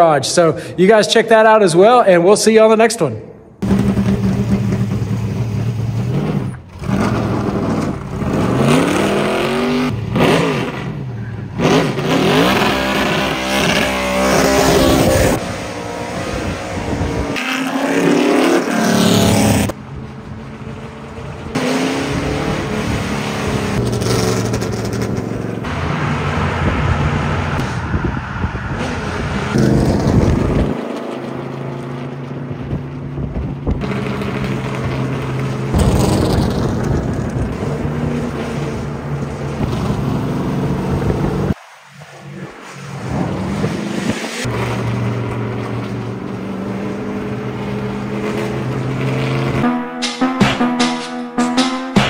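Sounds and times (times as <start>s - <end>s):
race car engine revving: 3.6s - 49.9s.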